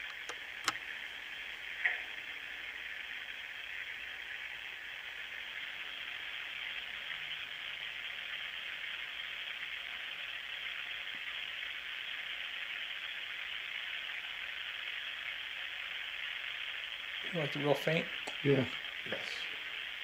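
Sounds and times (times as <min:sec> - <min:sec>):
static-like hiss: 0:00.0 - 0:20.0.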